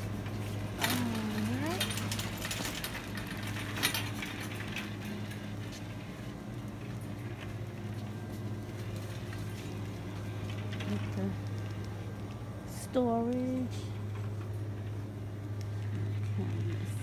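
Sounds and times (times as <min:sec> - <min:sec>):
low store hum: 0:00.0 - 0:17.0.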